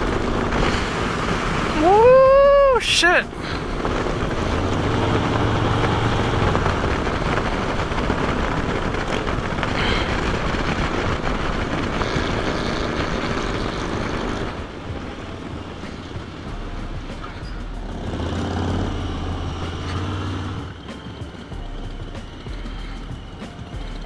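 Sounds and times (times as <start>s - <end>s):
motorcycle engine running: 0.0s - 24.0s
wind rush: 0.0s - 24.0s.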